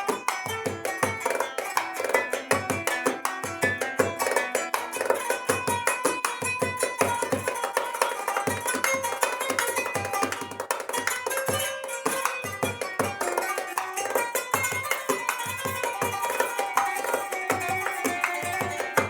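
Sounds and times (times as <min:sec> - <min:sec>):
goblet drum rhythm: 0:00.0 - 0:19.0.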